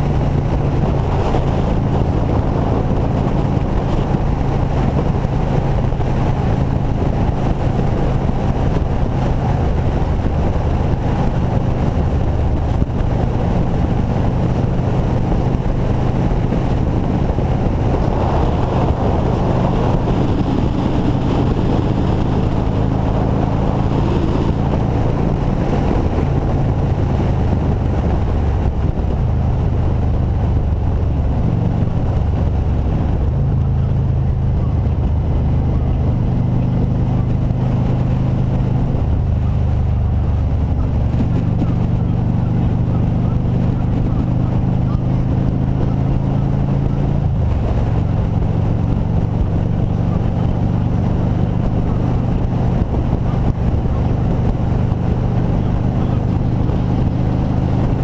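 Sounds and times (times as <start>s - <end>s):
motorcycle engine droning: 0.0s - 58.0s
wind rushing over microphone: 0.0s - 58.0s.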